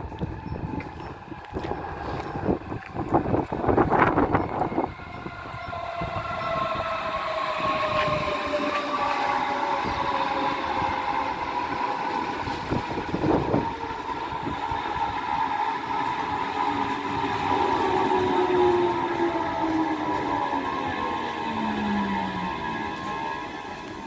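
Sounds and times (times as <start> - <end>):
train traction motors whining: 0.0 - 24.0
wheel and rail rumble: 0.0 - 24.0.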